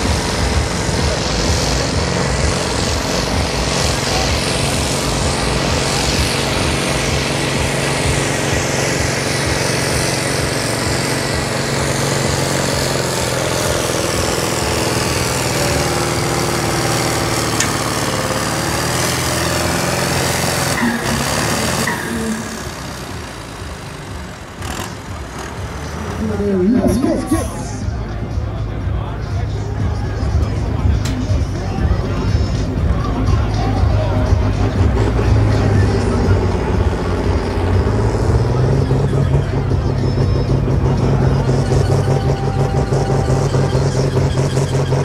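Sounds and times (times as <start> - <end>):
tractor engine under load: 0.0 - 28.2, 30.4 - 45.0.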